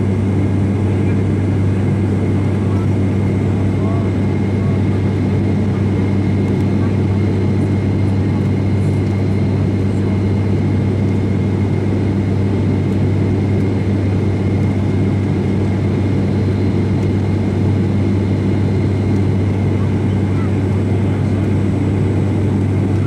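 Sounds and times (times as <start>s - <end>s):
faint high engine whine: 0.0s - 23.0s
turboprop engine drone: 0.0s - 23.0s.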